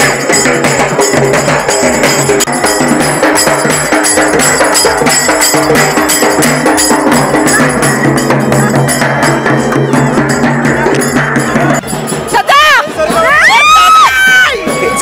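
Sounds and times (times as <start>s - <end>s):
music with drums and hand cymbals: 0.0s - 15.0s.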